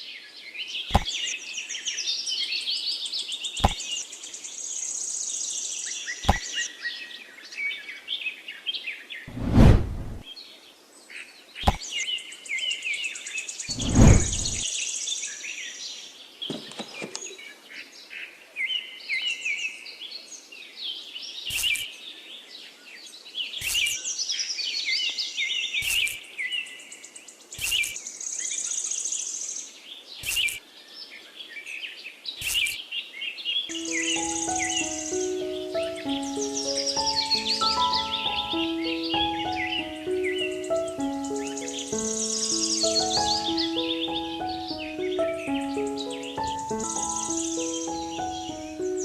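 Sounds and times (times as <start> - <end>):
birds chirping and trilling: 0.0 - 9.4, 10.2 - 49.0.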